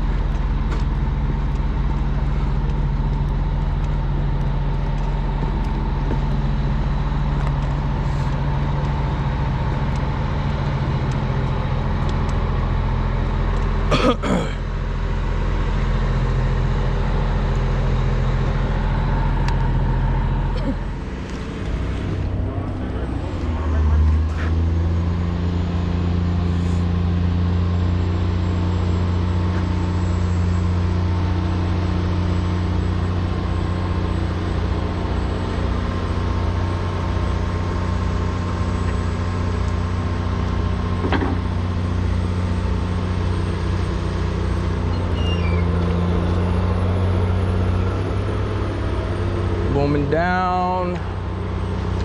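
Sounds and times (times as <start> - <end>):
heavy diesel engine humming: 0.0 - 52.0.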